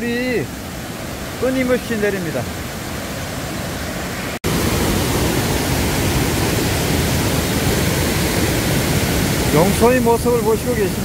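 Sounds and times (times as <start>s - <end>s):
stream water cascading over rock: 0.0s - 11.0s.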